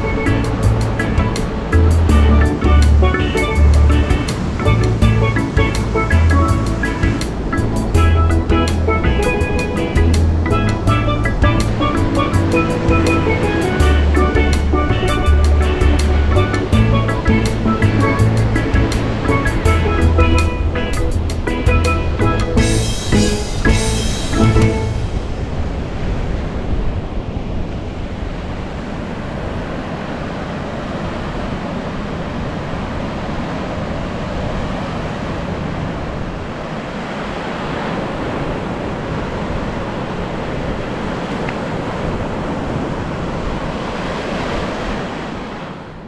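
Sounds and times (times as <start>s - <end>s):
surf breaking on beach: 0.0s - 46.0s
wind rumbling on microphone: 0.0s - 46.0s.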